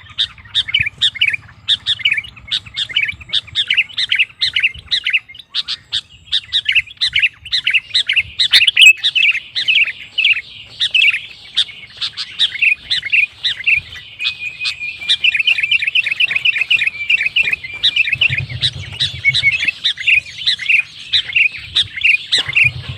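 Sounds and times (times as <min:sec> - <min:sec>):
bulbul chirping song: 0:00.0 - 0:22.9.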